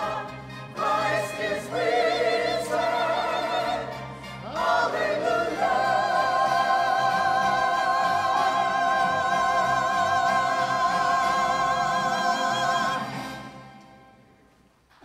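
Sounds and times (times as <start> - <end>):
choir singing held chord: 0.0 - 13.7.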